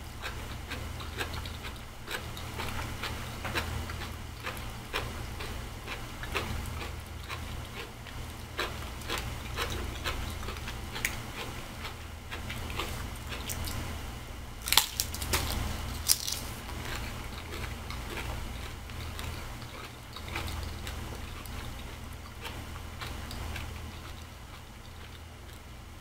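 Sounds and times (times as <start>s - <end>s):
person chewing with wet clicks: 0.0s - 13.9s, 14.6s - 25.8s
crunchy bites: 0.2s - 13.9s, 14.6s - 25.6s.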